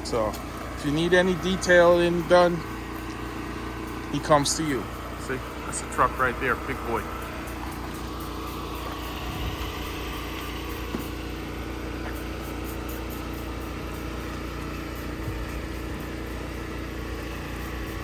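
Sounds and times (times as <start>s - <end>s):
engine humming steadily: 0.0s - 18.0s.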